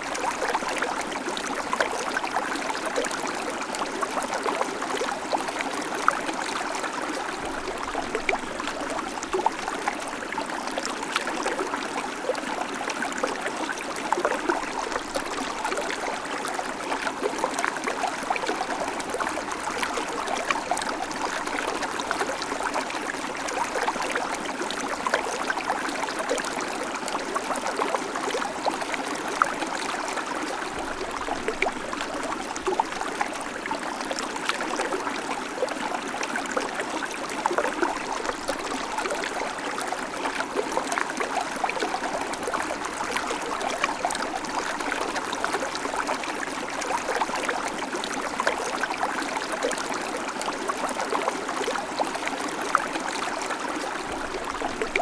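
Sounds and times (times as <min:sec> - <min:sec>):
creek babbling over stones: 0:00.0 - 0:55.0.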